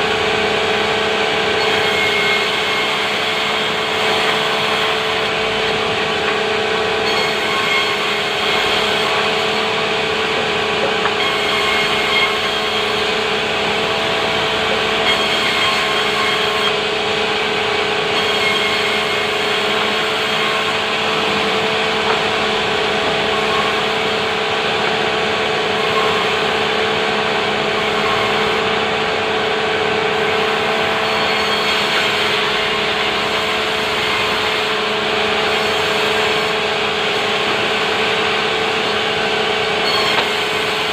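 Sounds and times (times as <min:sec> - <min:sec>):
saw rasping through timber: 0:00.0 - 0:40.9.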